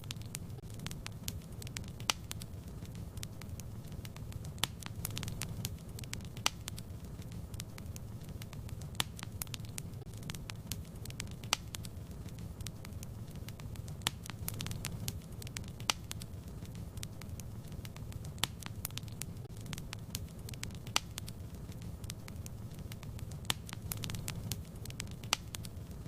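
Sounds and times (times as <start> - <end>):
low rumble of flames: 0.0 - 26.0
wood fire popping and snapping: 0.0 - 26.0.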